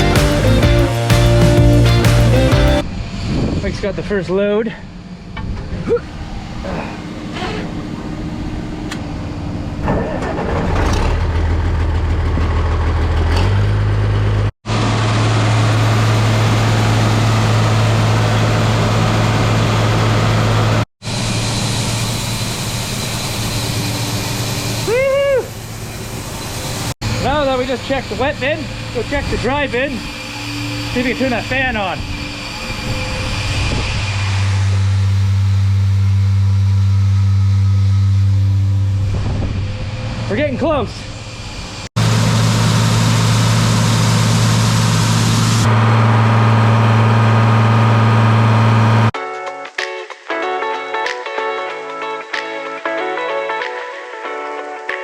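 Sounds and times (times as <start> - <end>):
large engine running: 0.0 - 49.2.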